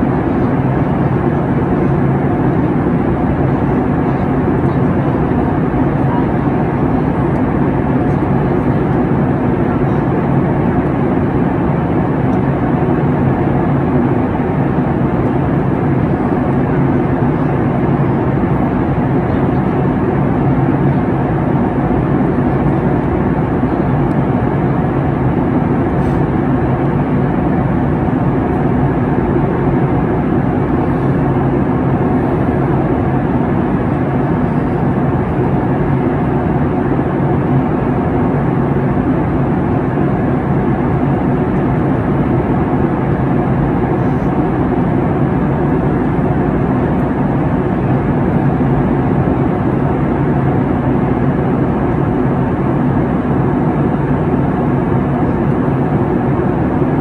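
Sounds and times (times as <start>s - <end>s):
jet engine and airflow rush: 0.0s - 57.0s.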